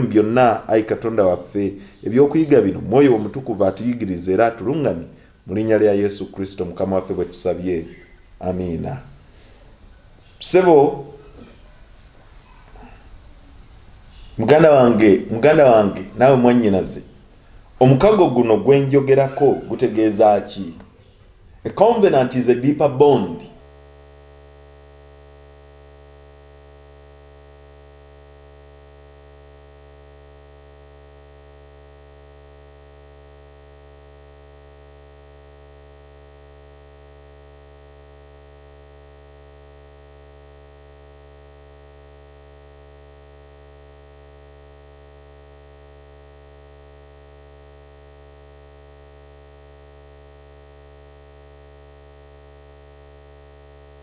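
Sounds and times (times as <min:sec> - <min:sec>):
steady electrical hum: 0:00.0 - 0:54.0.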